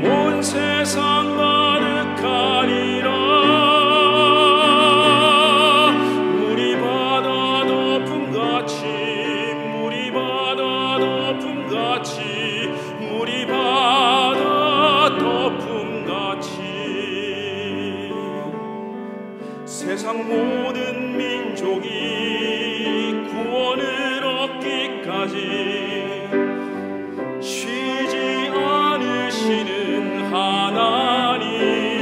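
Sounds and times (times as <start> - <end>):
cello: 0.0 - 32.0
man singing operatic hymn: 0.0 - 32.0
piano: 0.0 - 32.0.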